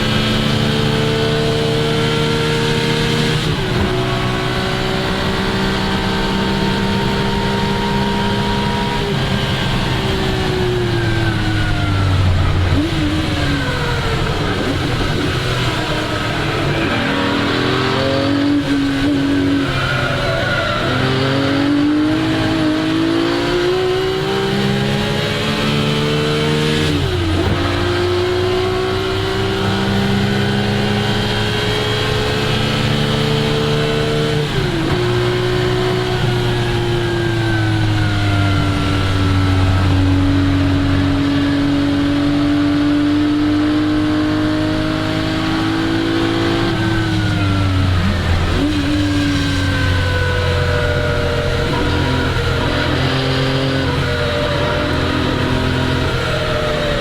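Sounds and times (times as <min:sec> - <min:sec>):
sports car engine revving: 0:00.0 - 0:57.0.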